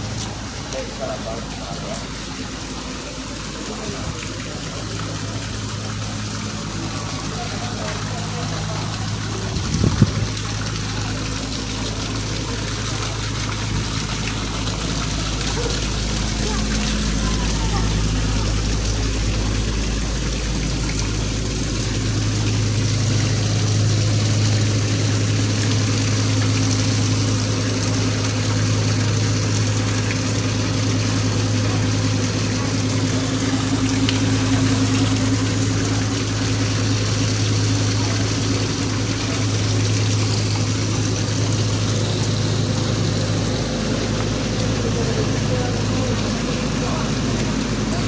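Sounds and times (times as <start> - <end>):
low engine hum: 0.0 - 48.0
water-like noise: 0.0 - 48.0.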